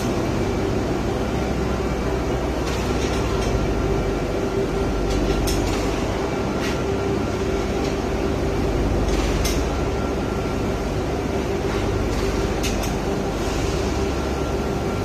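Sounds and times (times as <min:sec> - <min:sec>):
industrial machinery hum: 0:00.0 - 0:15.0.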